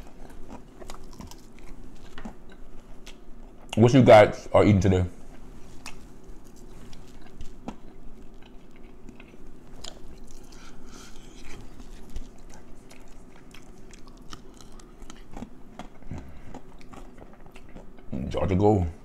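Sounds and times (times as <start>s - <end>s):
person chewing crispy chicken: 0.0s - 3.8s, 5.3s - 18.1s.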